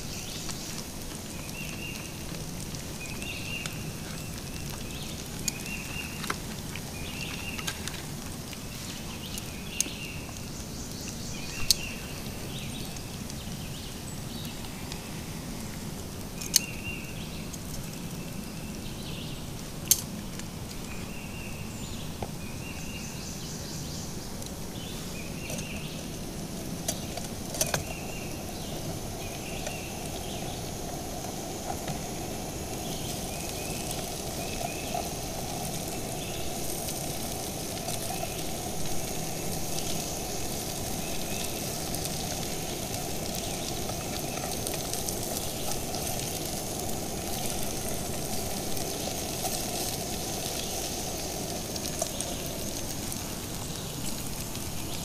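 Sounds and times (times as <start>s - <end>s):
camp stove running: 0.0s - 55.0s
hash browns sizzling in a pan: 0.0s - 55.0s.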